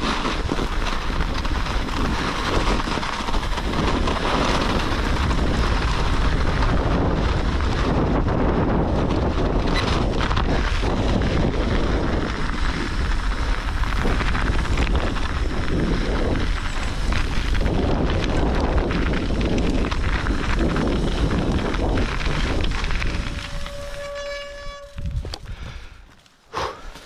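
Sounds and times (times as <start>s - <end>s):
wind rumbling on microphone: 0.0s - 26.1s
bike tyres rolling: 0.0s - 27.0s.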